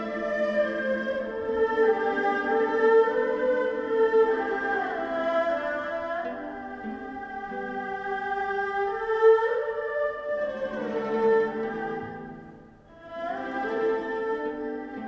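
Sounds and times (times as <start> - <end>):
bowed strings: 0.0 - 15.0
orchestra playing slow melody: 0.0 - 15.0.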